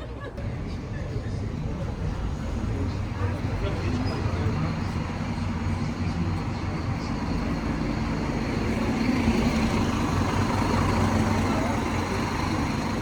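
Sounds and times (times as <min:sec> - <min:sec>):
vehicle engine and road noise: 0:00.3 - 0:13.0.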